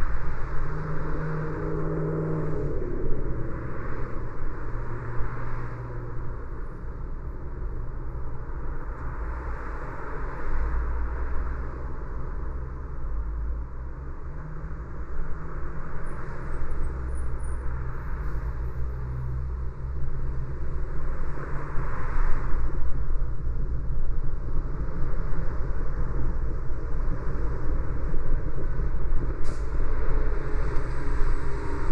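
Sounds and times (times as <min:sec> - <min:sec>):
car driving on street: 0:00.0 - 0:31.9.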